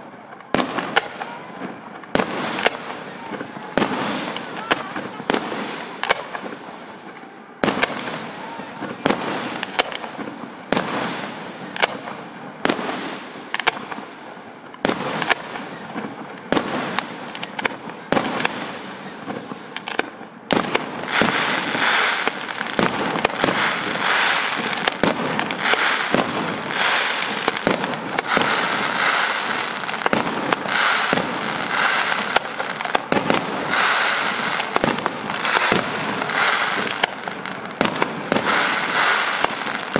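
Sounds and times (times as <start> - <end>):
dense firework crackling: 0.0 - 39.9.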